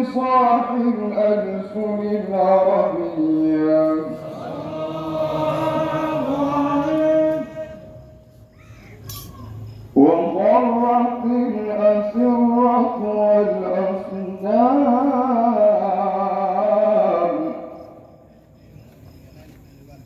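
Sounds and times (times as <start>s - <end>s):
man chanting into a microphone: 0.0s - 8.1s, 10.0s - 18.0s.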